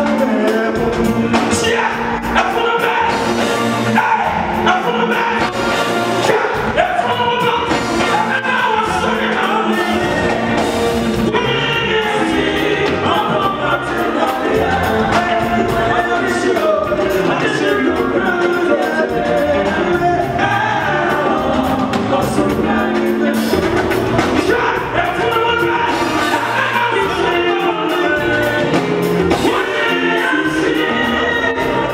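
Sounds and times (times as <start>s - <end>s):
gospel band playing: 0.0s - 31.9s
man singing lead vocals: 0.0s - 31.9s.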